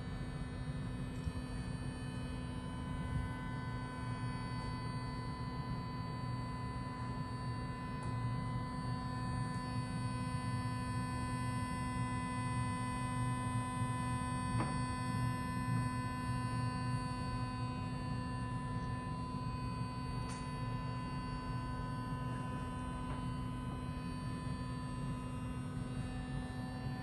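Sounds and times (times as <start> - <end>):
smoke unit fan motor humming: 0.0 - 27.0.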